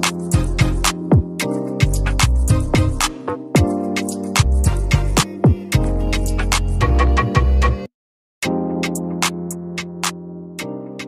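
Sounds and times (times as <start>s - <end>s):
instrumental music with held chords: 0.0s - 11.0s.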